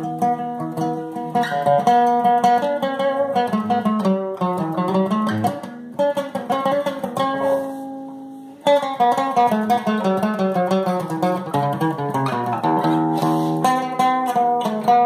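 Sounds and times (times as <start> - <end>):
guitar picking: 0.0 - 15.0.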